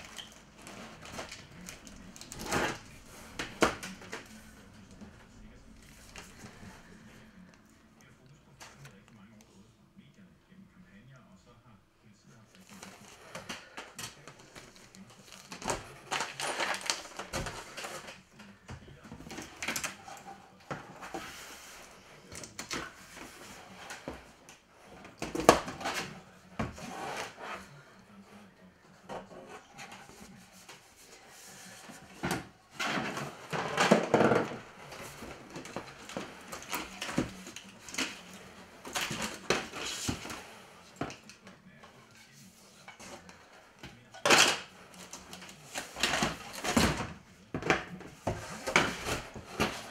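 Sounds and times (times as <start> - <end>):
paper and cardboard rustling: 0.0 - 7.4, 12.5 - 49.9.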